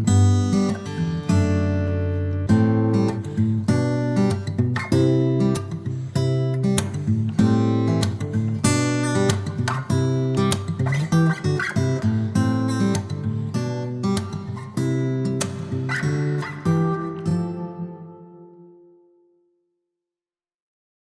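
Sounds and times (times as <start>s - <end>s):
strummed acoustic guitar: 0.0s - 19.2s.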